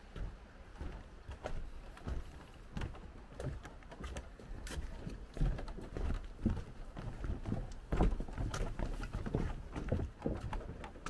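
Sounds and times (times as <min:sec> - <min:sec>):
footsteps on wooden boardwalk: 0:00.0 - 0:11.0.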